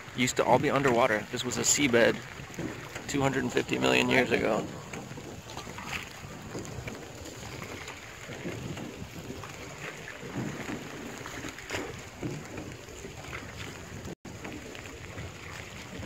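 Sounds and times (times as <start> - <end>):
oars splashing and dripping: 0.0 - 16.0.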